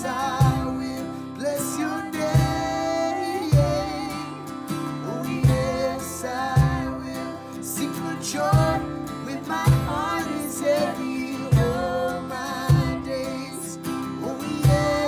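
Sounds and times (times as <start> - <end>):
person singing: 0.0 - 15.0
strummed acoustic guitar: 0.0 - 15.0.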